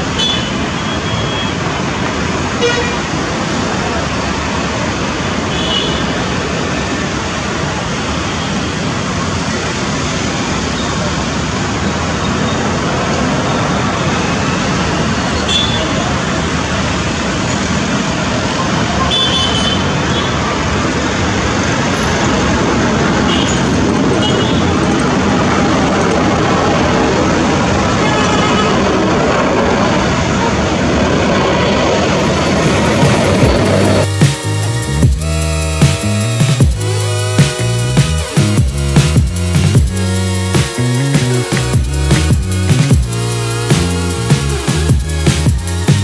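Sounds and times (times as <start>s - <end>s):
distant airliner engines rushing: 0.0s - 46.0s.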